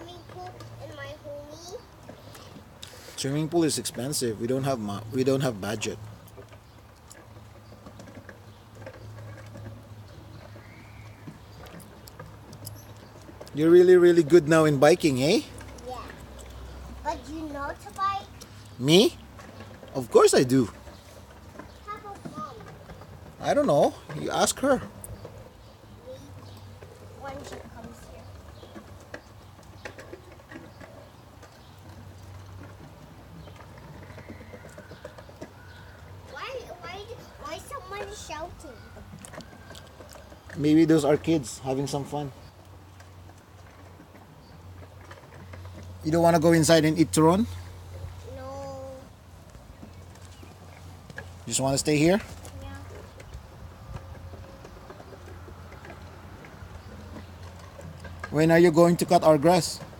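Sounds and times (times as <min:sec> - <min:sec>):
small bicycle rolling over wooden boards: 0:00.0 - 0:59.9.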